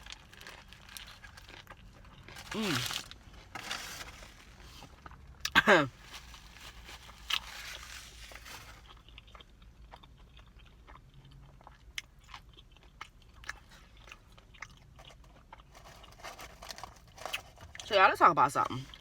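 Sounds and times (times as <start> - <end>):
crunchy chewing: 0.0 - 17.9.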